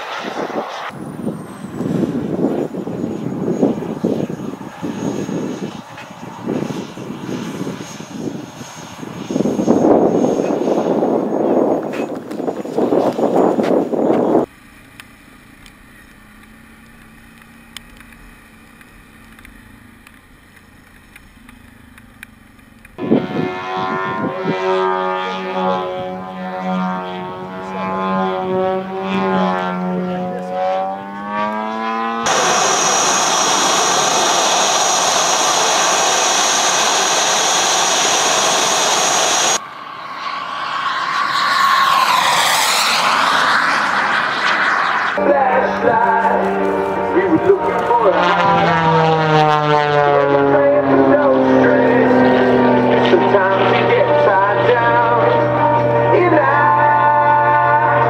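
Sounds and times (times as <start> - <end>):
loud rushing with high whine: 0.0 - 29.0, 32.0 - 58.0
model plane engine: 0.0 - 58.0
plane flying past: 0.0 - 58.0.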